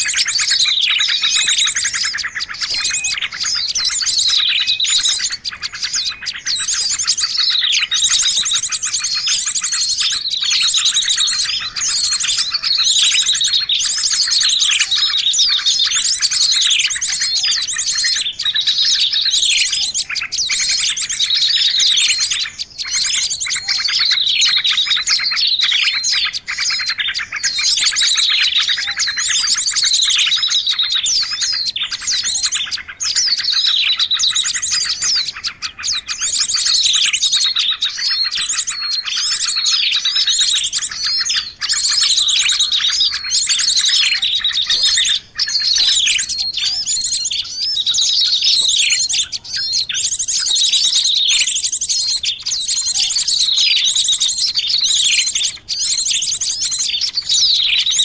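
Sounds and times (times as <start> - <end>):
chorus of songbirds: 0.0 - 58.0.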